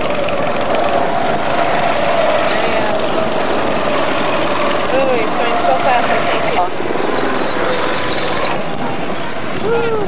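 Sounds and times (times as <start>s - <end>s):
go-kart engines running: 0.0s - 10.0s.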